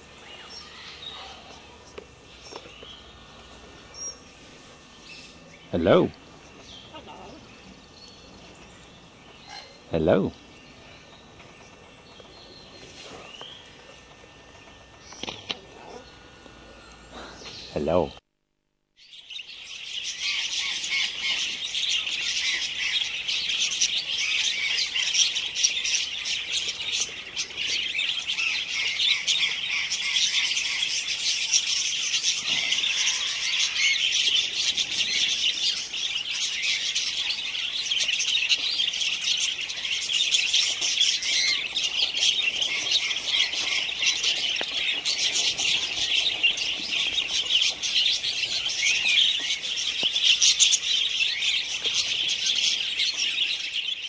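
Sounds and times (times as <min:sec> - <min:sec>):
parakeets chattering: 0:05.0 - 0:18.2, 0:19.4 - 0:54.0.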